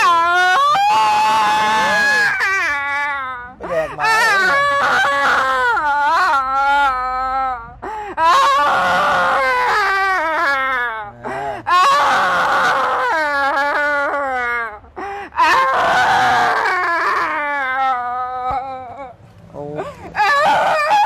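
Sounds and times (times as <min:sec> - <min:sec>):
woman wailing and screaming: 0:00.0 - 0:19.1, 0:19.7 - 0:21.0.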